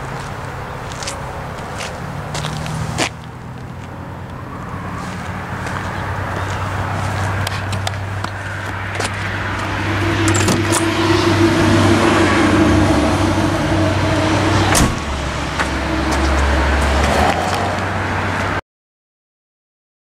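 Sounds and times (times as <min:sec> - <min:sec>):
car engine running: 0:00.0 - 0:18.6.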